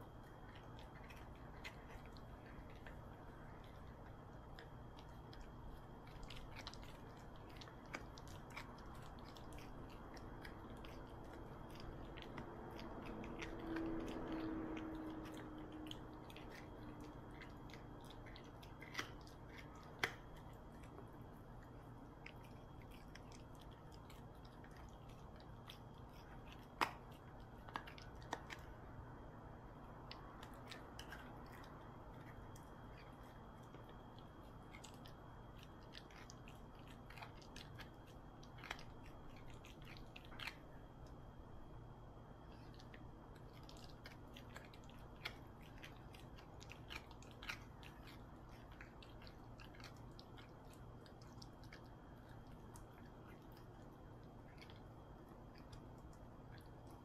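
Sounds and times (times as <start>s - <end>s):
dog teeth crunching chew: 0.0s - 29.0s, 29.8s - 41.5s, 42.4s - 57.0s.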